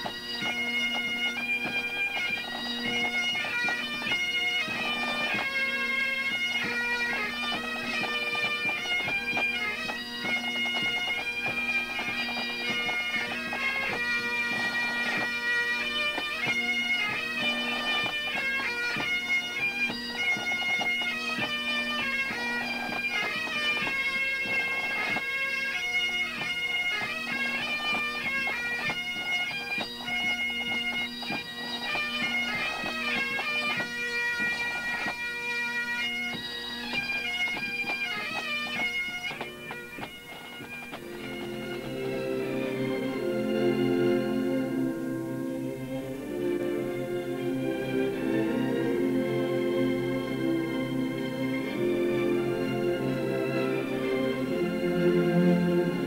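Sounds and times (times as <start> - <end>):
bagpipe drone: 0.0 - 56.0
bagpipes playing lively tune: 0.0 - 56.0.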